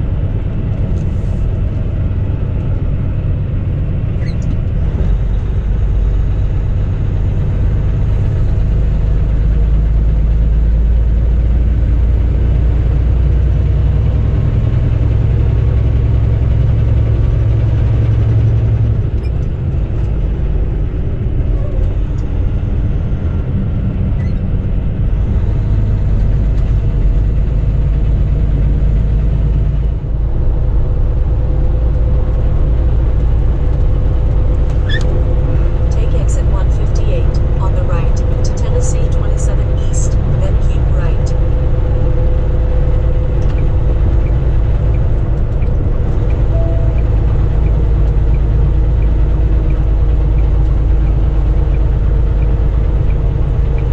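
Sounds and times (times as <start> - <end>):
road noise: 0.0 - 53.9
truck engine drone: 0.0 - 53.9.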